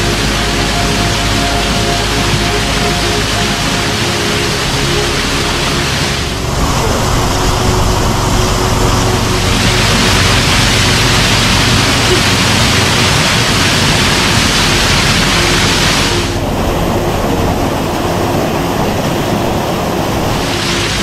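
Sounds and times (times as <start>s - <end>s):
waterfall pouring into pool: 0.0s - 21.0s.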